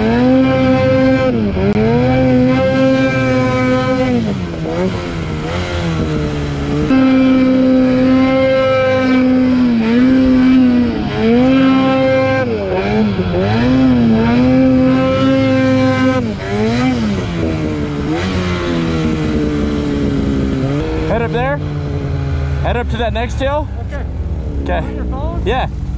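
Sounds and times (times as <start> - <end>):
snowmobile engine revving: 0.0 - 25.9.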